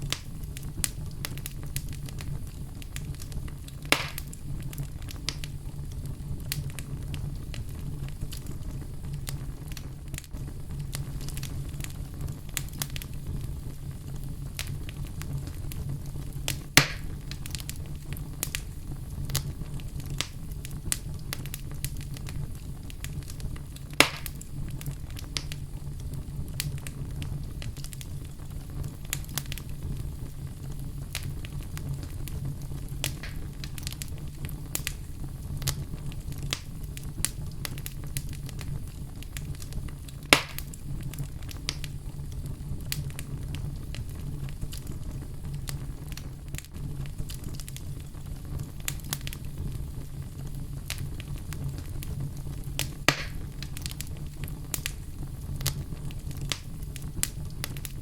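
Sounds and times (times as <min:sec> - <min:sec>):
low rumble of flame: 0:00.0 - 0:58.0
sharp fire pops: 0:00.0 - 0:58.0
wood fire crackling: 0:00.0 - 0:58.0.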